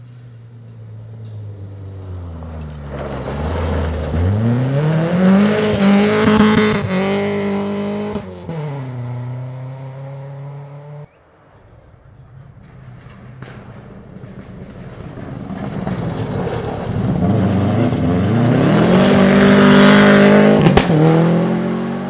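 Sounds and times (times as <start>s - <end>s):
rally car engine accelerating: 1.0s - 11.1s, 14.4s - 22.0s.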